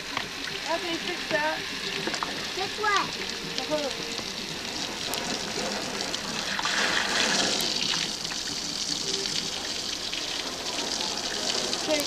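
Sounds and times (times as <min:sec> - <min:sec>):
water gushing from garden hose: 0:00.0 - 0:12.0.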